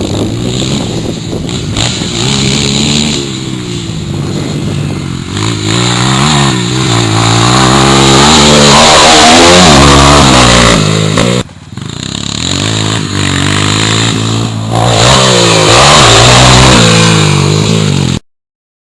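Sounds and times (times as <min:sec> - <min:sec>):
dirt bike engine revving: 0:00.0 - 0:18.2.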